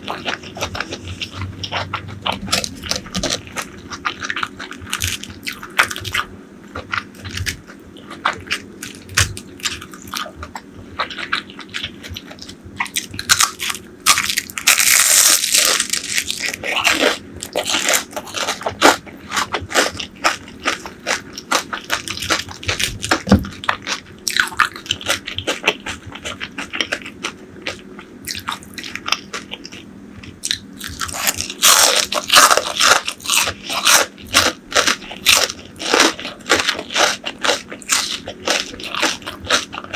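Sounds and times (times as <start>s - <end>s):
crunchy chewing of fried food: 0.0s - 39.9s.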